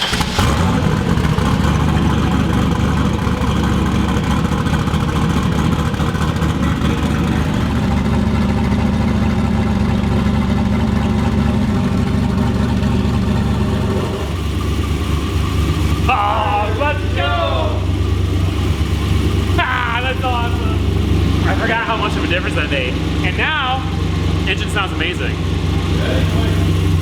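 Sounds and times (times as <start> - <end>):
v eight engine idling lumpy: 0.0 - 27.0.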